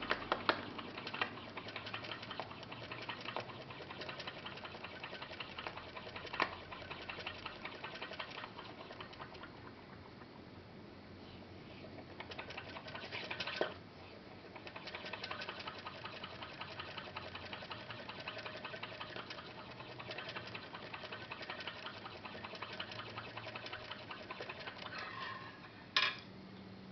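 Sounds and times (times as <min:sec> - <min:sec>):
pop-pop boat motor pulsing: 0:00.0 - 0:10.1, 0:12.2 - 0:13.8, 0:14.4 - 0:25.0.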